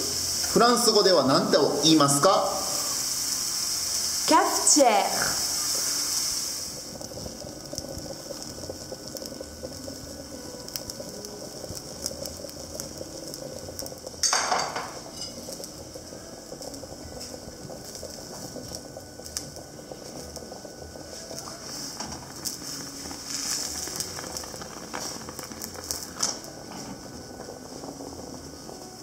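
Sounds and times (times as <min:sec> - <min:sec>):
crepe sizzling in a pan: 0:00.0 - 0:29.0.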